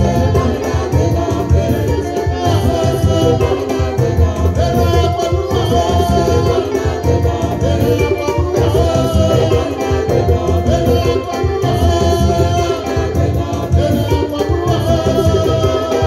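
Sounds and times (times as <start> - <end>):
band with steady bass: 0.0 - 16.0
lead singer and choir singing: 0.0 - 16.0.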